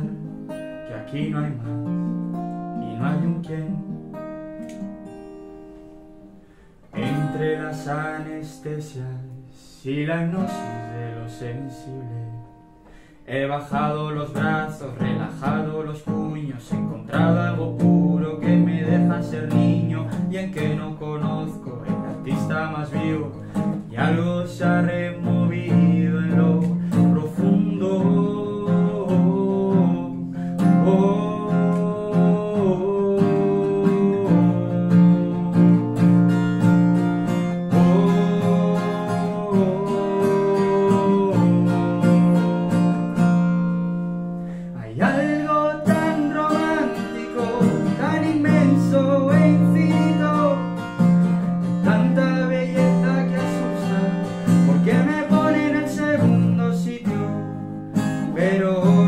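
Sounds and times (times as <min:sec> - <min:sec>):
man singing: 0:00.0 - 0:04.2, 0:06.9 - 0:12.6, 0:13.2 - 0:43.4, 0:44.4 - 0:59.0
acoustic guitar strummed: 0:00.0 - 0:59.0.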